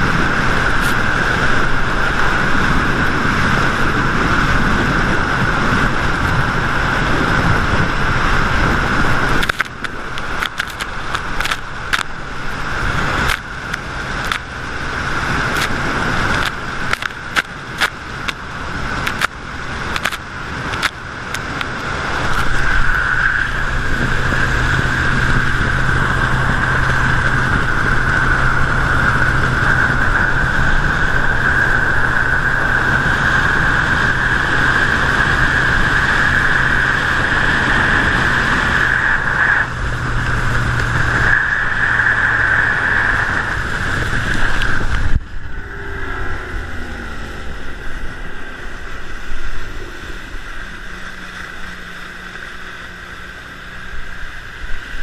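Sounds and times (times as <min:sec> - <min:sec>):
outboard motor running: 0:00.0 - 0:55.0
water rushing: 0:00.0 - 0:55.0
wind: 0:00.0 - 0:55.0.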